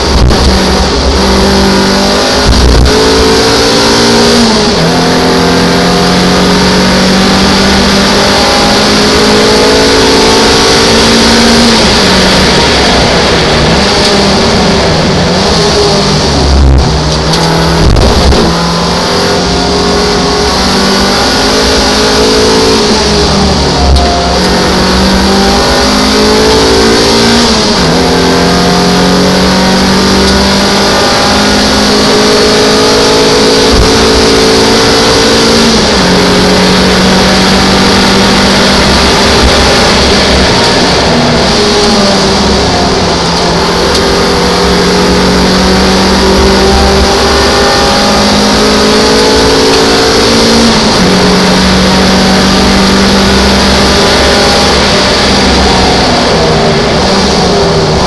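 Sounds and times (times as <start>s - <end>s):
race car engine accelerating: 0.0s - 58.0s
wind and road noise: 0.0s - 58.0s.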